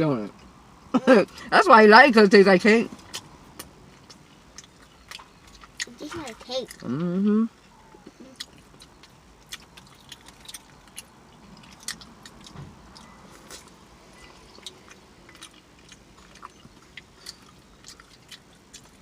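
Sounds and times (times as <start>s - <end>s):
person chewing with wet smacks: 2.9s - 19.0s.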